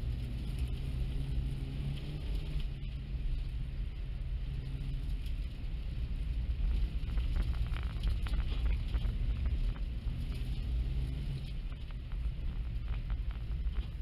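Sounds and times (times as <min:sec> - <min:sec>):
car engine running under load: 0:00.0 - 0:14.0.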